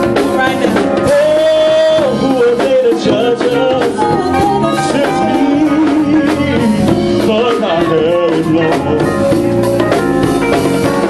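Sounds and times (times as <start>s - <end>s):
bass: 0.0s - 11.0s
drums: 0.0s - 11.0s
sustained lead melody: 0.0s - 11.0s.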